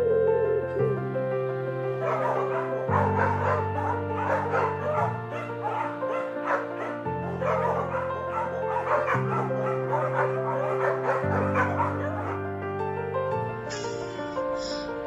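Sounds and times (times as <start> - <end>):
background music with low chords: 0.0 - 15.0.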